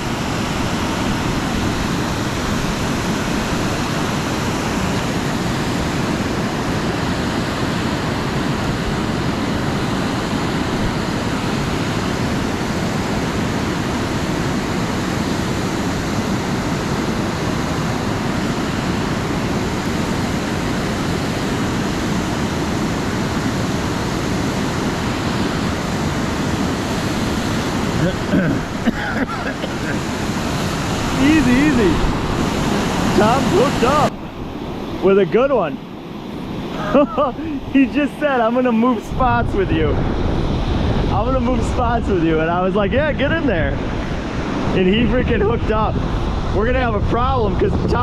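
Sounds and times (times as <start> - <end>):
fast-flowing creek water: 0.0 - 46.9.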